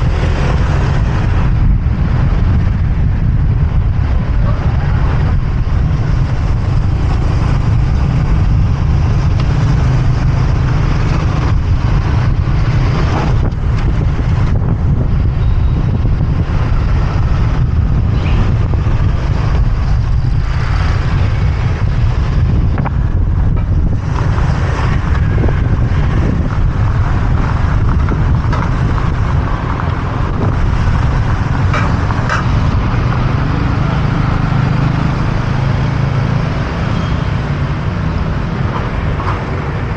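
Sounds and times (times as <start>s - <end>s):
street traffic: 0.0s - 39.9s
wind rumble on microphone: 0.0s - 39.9s.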